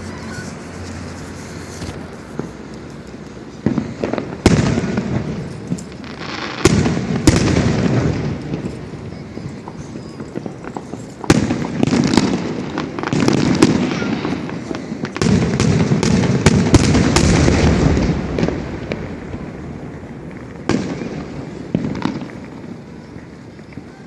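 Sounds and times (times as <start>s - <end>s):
firework crackling: 0.0s - 24.0s
firework shells booming: 1.9s - 23.9s.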